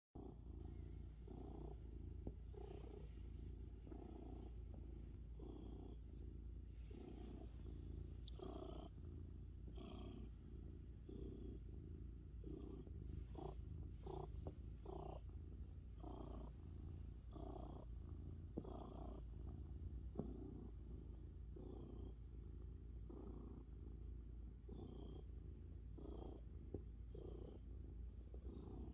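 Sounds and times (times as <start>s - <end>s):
cat purring: 0.2s - 28.9s.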